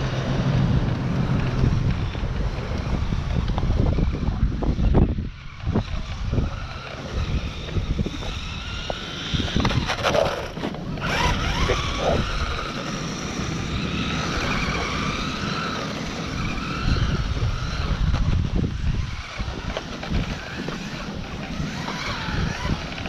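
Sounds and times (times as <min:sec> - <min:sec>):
electric motor whining: 0:00.0 - 0:23.0
wind on microphone: 0:00.0 - 0:23.0.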